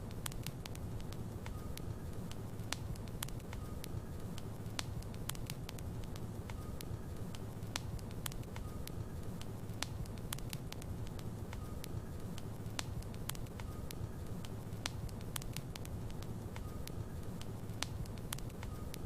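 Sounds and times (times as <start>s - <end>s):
logs crackling in a fireplace: 0.0s - 19.0s.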